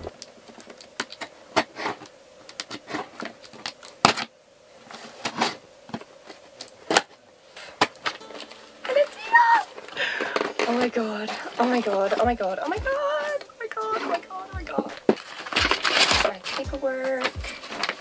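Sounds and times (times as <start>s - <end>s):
cardboard rustling: 0.6s - 18.0s.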